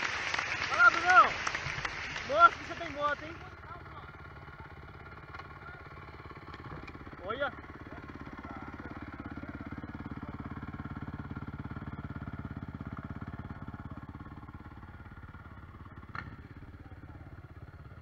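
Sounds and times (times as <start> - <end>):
dirt bike engine idling: 0.1 - 18.0.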